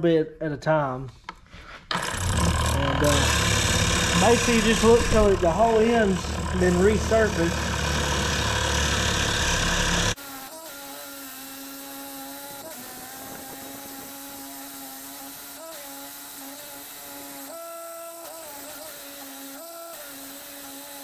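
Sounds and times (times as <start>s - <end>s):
drill bit sharpener motor whining: 1.9s - 21.0s
grinding rasp: 1.9s - 21.0s.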